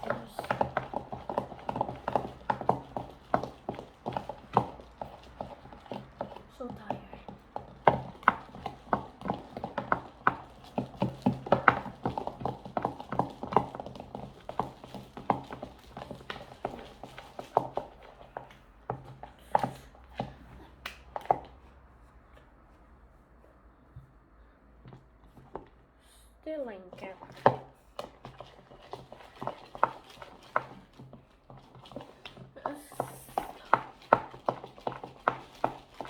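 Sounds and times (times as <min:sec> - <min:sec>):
slime being kneaded by hand: 0:00.0 - 0:36.0.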